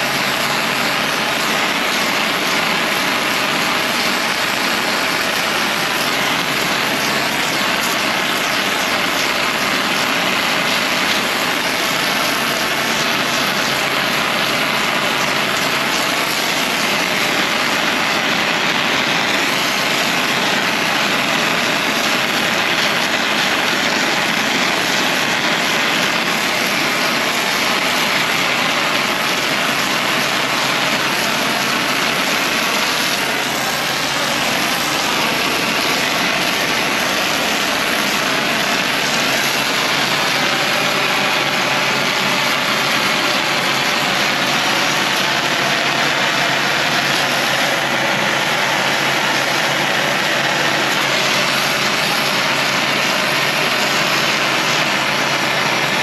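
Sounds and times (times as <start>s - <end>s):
pressure washer engine running: 0.0s - 56.0s.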